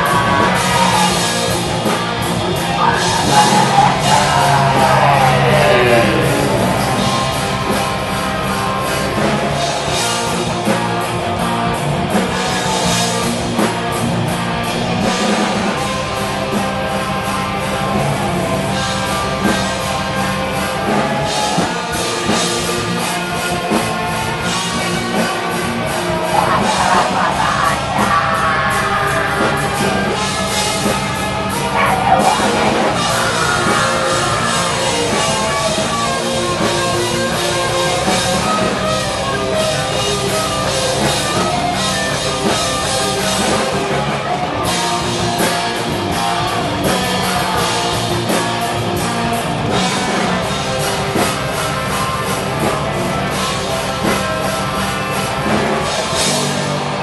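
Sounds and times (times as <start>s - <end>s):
bass guitar: 0.0s - 57.0s
distorted electric guitar: 0.0s - 57.0s
drum kit: 0.0s - 57.0s.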